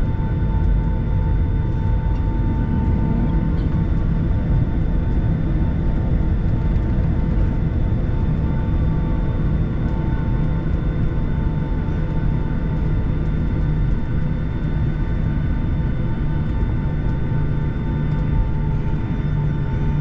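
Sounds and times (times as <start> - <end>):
jet engine high whine: 0.0 - 20.0
jet engine rumble: 0.0 - 20.0.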